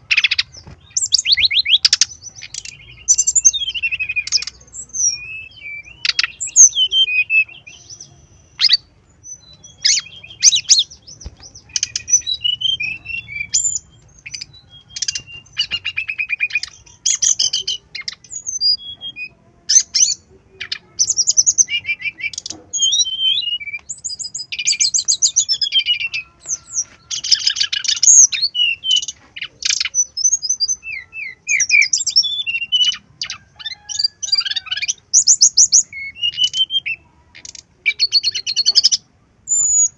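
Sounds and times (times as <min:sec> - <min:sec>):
bird song trills and whistles: 0:00.0 - 0:39.9.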